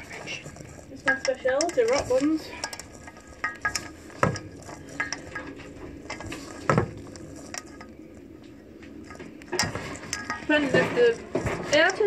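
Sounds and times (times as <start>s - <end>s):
dough mixing in metal bowl: 0.0s - 12.0s.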